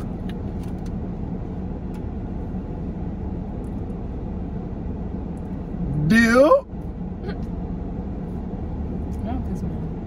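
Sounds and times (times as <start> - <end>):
car engine hum inside cabin: 0.0 - 10.0.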